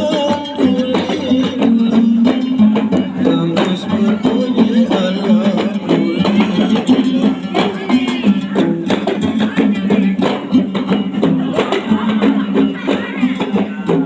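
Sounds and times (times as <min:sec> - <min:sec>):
percussion hits: 0:00.0 - 0:14.0
plucked lute playing: 0:00.0 - 0:14.0.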